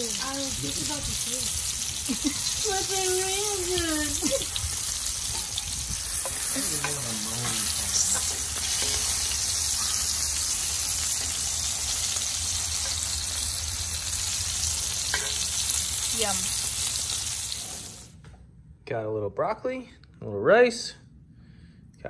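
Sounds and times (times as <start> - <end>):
fish sizzling in skillet: 0.0 - 18.2.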